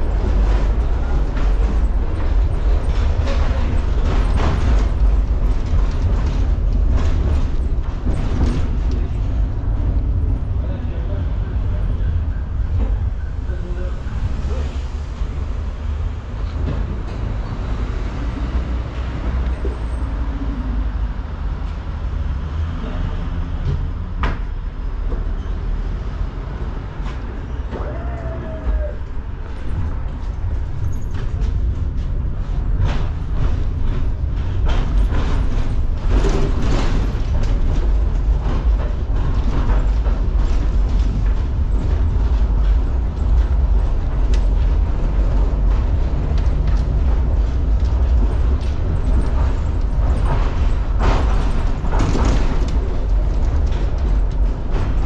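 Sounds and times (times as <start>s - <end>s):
tram rumbling on track: 0.0s - 55.0s.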